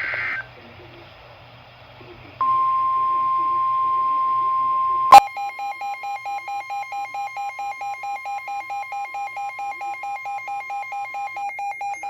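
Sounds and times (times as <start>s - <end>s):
faint steady tone: 2.0s - 12.0s.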